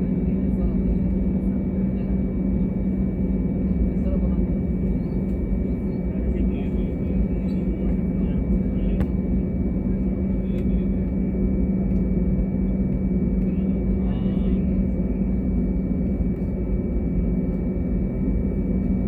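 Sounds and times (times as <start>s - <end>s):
aircraft engine drone in cabin: 0.0s - 19.0s.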